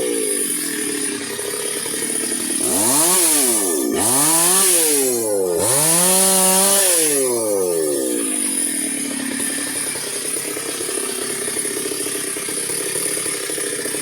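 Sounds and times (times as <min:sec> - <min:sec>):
chainsaw cutting log: 0:00.0 - 0:14.0
chainsaw revving: 0:00.0 - 0:14.0.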